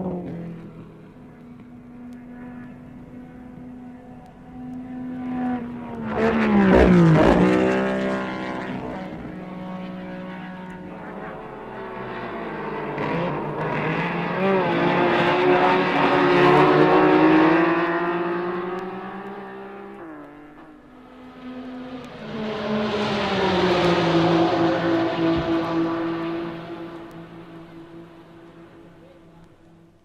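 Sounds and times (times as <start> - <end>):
race car engine passing: 0.0 - 29.9.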